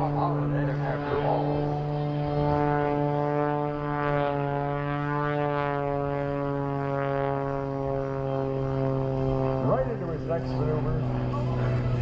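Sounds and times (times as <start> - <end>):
propeller airplane droning: 0.0 - 12.0.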